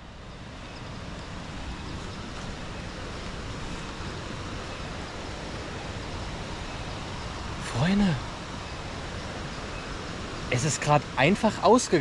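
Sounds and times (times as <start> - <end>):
rushing rainforest ambience: 0.0 - 12.0.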